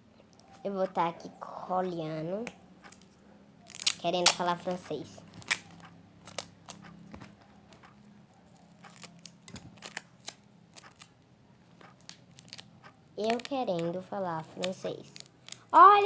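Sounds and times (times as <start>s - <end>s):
scissors snipping: 2.4s - 8.0s, 8.6s - 15.8s.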